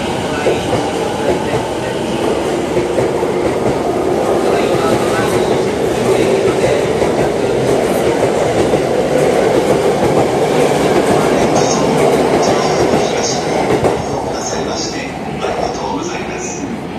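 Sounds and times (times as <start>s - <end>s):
train wheel-on-rail rumble: 0.0s - 16.9s.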